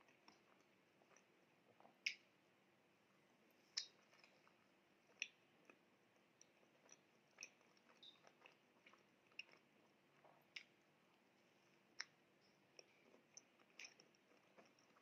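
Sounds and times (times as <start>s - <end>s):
person chewing: 0.0s - 2.2s, 3.6s - 10.8s, 11.6s - 15.0s.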